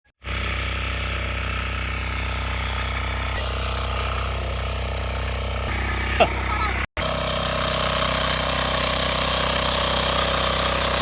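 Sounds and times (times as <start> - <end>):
ploughing machine engine running: 0.2 - 11.0.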